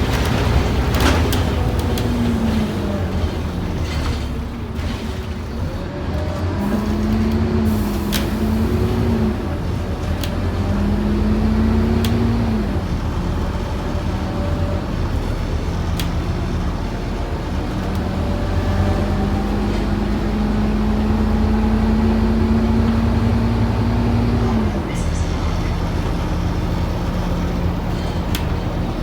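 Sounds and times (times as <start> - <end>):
bus diesel engine from on board: 0.0 - 29.0.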